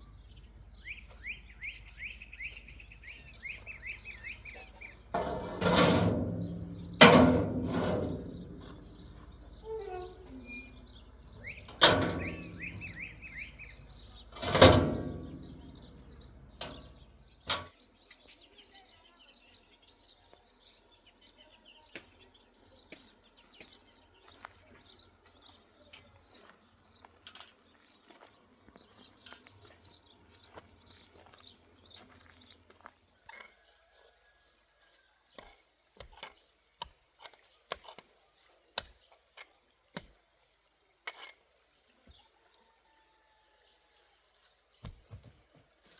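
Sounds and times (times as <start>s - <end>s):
small birds chirping: 0.0s - 5.2s, 8.2s - 14.6s, 15.2s - 45.9s.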